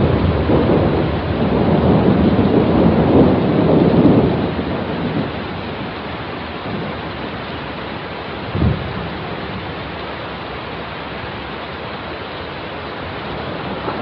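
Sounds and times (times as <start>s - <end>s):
thunder rumbling: 0.0s - 11.5s, 12.4s - 14.0s
heavy rain: 0.0s - 14.0s.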